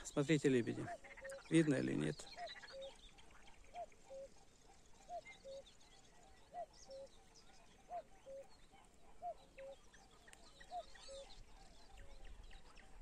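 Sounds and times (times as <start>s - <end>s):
faint songbird chirps: 0.0s - 13.0s.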